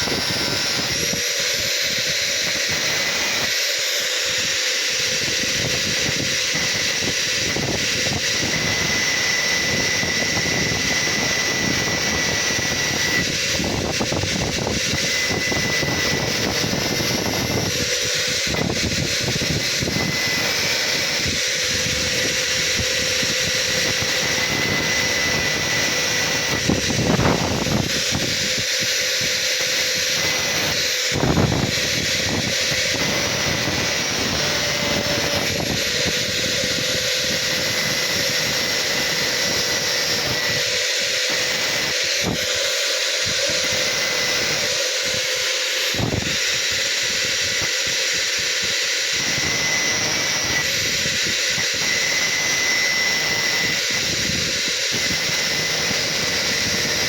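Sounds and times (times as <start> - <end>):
angle grinder cutting metal: 0.0 - 57.0.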